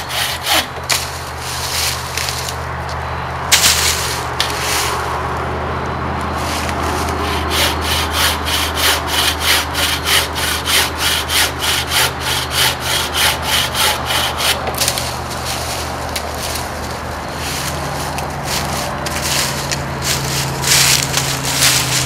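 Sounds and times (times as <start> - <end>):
bucksaw cutting wood: 0.0 - 2.6, 6.4 - 22.0.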